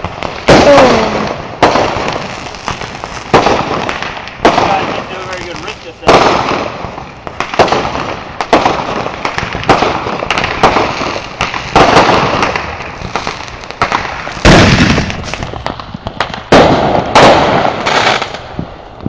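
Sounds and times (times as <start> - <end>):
fireworks bangs and crackling pops: 0.0 - 19.0.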